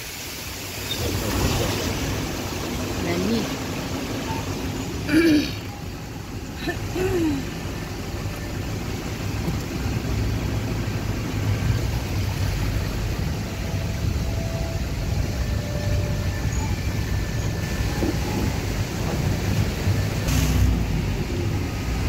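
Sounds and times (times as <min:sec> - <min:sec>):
vehicle engine and tyres rumbling: 0:00.0 - 0:22.0.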